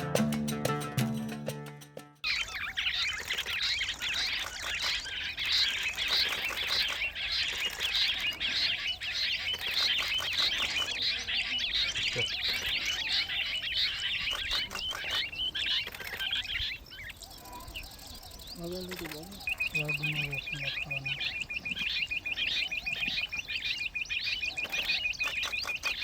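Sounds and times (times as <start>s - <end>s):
small birds chirping: 2.2s - 26.0s.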